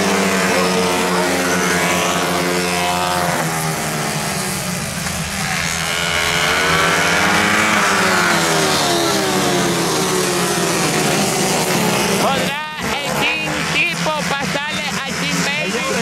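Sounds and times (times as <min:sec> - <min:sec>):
racing motorcycles at high revs: 0:00.0 - 0:16.0.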